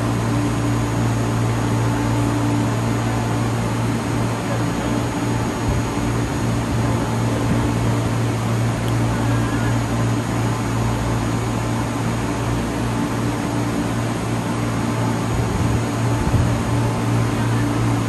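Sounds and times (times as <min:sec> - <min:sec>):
train equipment humming: 0:00.0 - 0:18.0.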